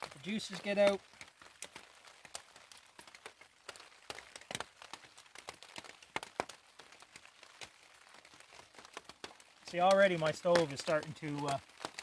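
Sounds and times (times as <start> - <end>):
rain dripping on plastic tarp: 0.0 - 12.0.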